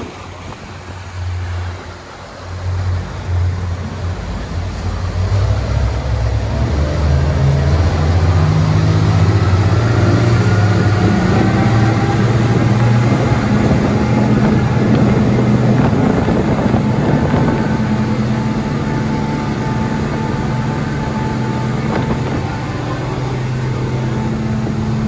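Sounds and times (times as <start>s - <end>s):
outboard engines running: 0.0s - 25.0s
water rushing in wake: 0.0s - 25.0s.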